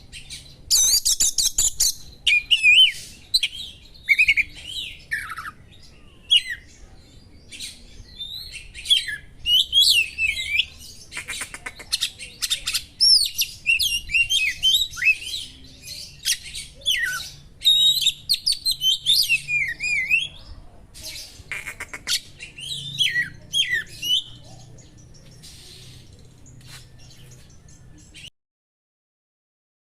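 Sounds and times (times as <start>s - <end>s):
bird singing varied song: 0.0s - 28.3s.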